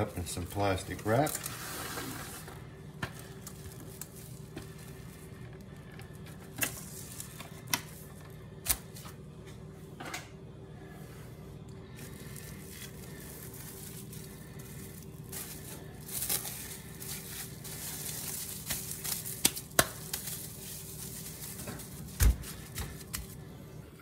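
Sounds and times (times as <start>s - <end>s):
plastic cling wrap crinkling: 0.0s - 2.6s, 3.2s - 9.0s, 11.9s - 23.4s
steady low hum: 0.0s - 24.0s.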